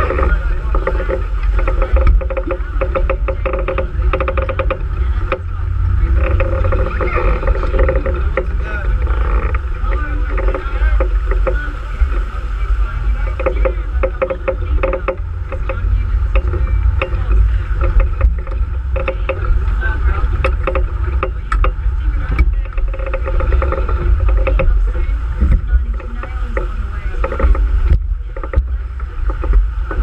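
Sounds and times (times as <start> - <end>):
rushing water: 0.0 - 30.0
wind on microphone: 0.0 - 30.0.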